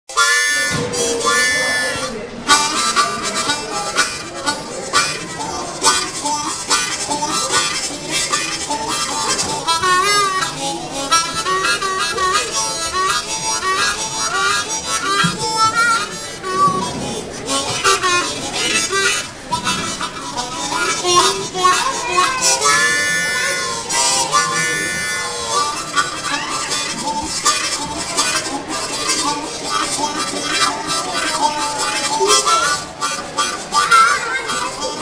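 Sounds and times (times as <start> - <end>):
harmonica tune over a beat: 0.1 - 35.0.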